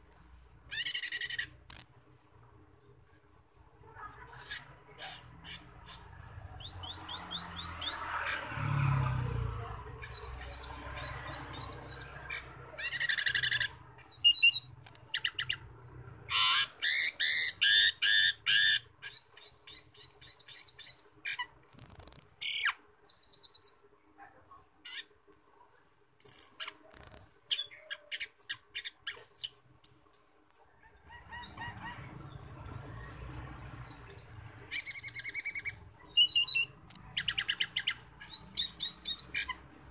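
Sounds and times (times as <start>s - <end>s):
starling singing chirps and trills: 0.0s - 23.8s, 24.4s - 39.9s.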